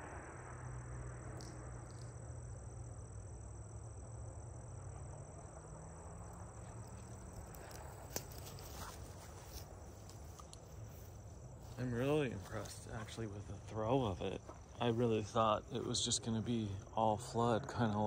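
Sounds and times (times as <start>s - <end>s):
crickets trilling: 0.0s - 18.0s
low background rumble: 0.0s - 18.0s.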